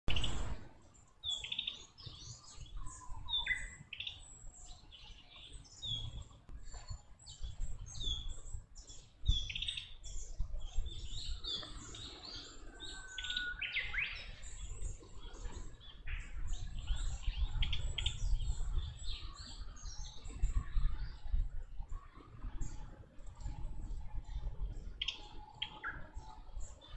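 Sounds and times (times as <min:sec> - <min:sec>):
birds chirping and calling: 0:00.1 - 0:26.9.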